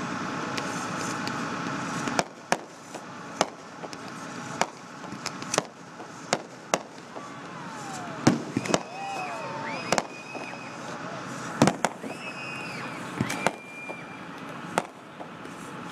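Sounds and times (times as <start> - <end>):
firework bangs: 0.0 - 15.9
firework rushing noise: 0.0 - 15.9.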